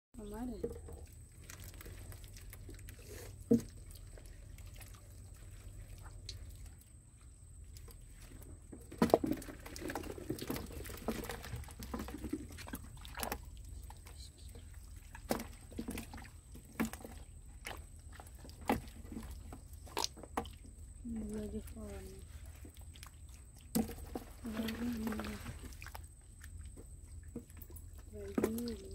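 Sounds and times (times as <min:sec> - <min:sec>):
wet mud squelches: 0:00.2 - 0:28.9.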